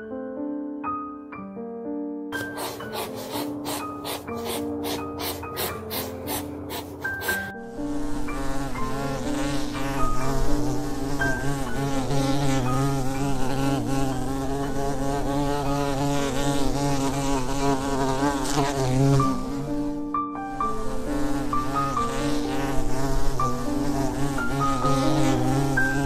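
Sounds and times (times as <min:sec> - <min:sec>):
flying insect buzzing: 0:02.4 - 0:26.0.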